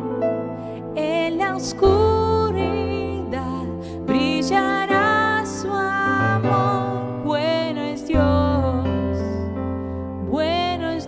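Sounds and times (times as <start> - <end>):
keyboard chords: 0.0 - 11.0
woman singing worship song: 0.8 - 9.6, 10.2 - 11.0.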